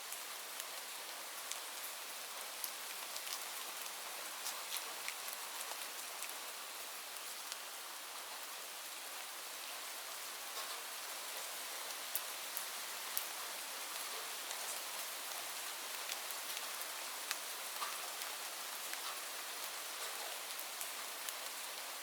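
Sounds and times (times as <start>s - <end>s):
steady rain hiss: 0.0s - 22.0s
raindrops ticking on a surface: 0.1s - 22.0s.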